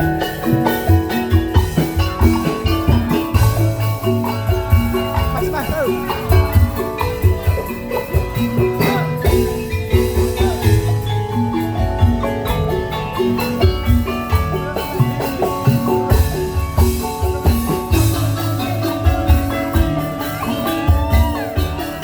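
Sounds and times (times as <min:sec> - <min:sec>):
bamboo percussion notes: 0:00.0 - 0:22.0
gliding melodic line: 0:00.0 - 0:22.0
low drum beat: 0:00.0 - 0:22.0.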